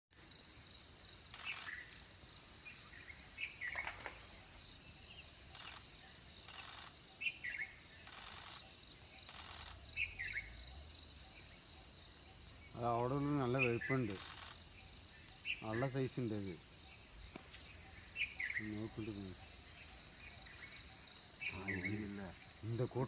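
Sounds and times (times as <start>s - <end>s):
insects trilling: 0.1s - 23.0s
bird chirps: 1.0s - 23.0s.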